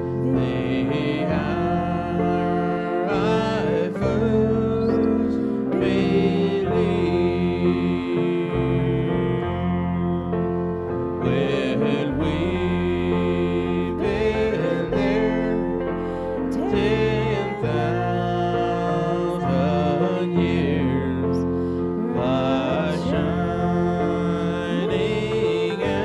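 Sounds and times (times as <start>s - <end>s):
person singing: 0.0s - 26.0s
sustained instrumental chords: 0.0s - 26.0s.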